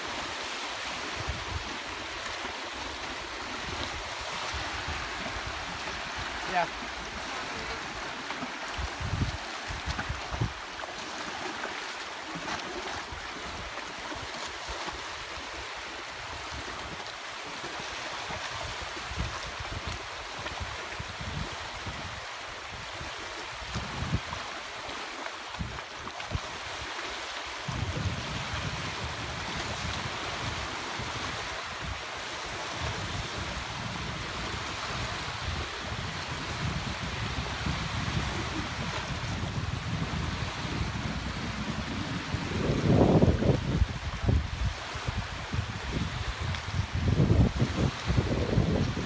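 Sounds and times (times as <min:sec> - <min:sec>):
small waves washing in lake: 0:00.0 - 0:49.0
wind rumbling on microphone: 0:00.0 - 0:49.0.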